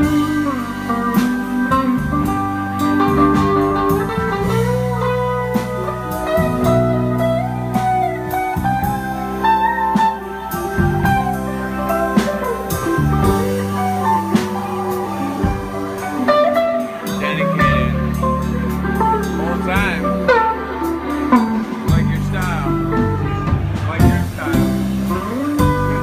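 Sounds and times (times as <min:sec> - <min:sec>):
drums: 0:00.0 - 0:26.0
guitar lead with bending notes: 0:00.0 - 0:26.0
organ chords: 0:00.0 - 0:26.0.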